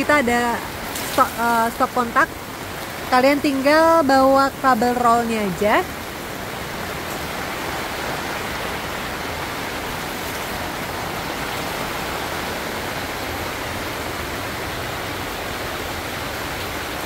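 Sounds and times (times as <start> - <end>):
rain on a tent: 0.0 - 17.0.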